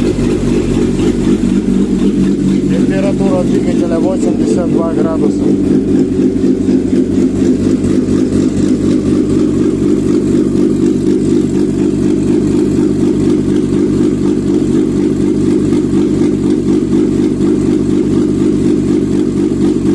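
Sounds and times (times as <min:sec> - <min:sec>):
car engine running steadily: 0:00.0 - 0:19.9.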